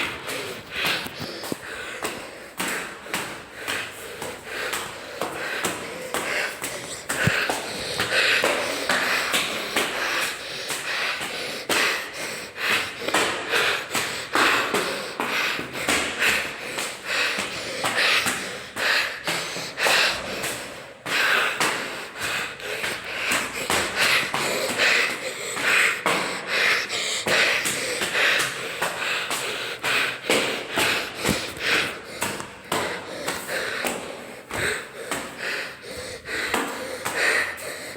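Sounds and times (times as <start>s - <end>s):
footsteps on stairs: 0.0s - 37.9s
person breathing hard: 0.0s - 37.9s.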